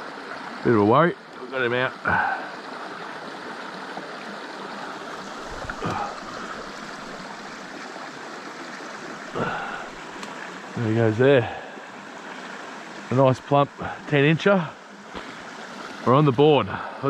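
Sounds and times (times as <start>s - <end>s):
creek running over rocks: 0.0s - 17.0s.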